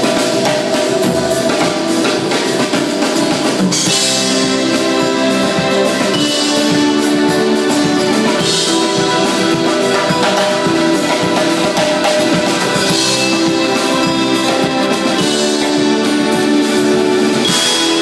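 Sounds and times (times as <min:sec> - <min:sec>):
guitar chords: 0:00.0 - 0:18.0
keyboard chords: 0:00.0 - 0:18.0
snare drum: 0:00.0 - 0:18.0.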